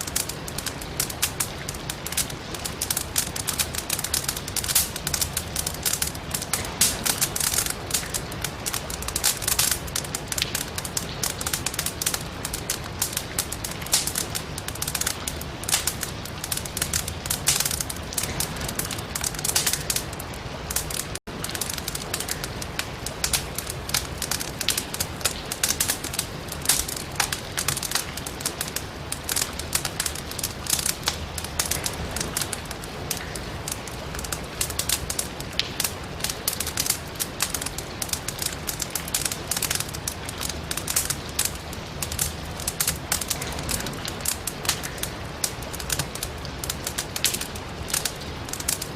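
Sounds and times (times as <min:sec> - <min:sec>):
firewood crackling and popping: 0:00.0 - 0:48.9
rain hiss: 0:00.0 - 0:48.9.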